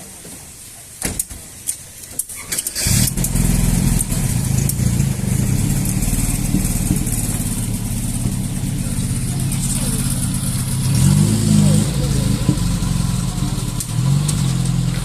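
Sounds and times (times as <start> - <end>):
engine running: 2.8 - 15.0.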